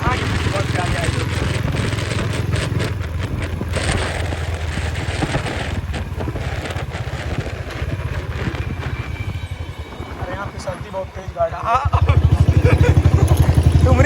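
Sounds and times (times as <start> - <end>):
motorcycle engine rumbling: 0.0 - 14.0
wind buffeting microphone: 0.0 - 14.0.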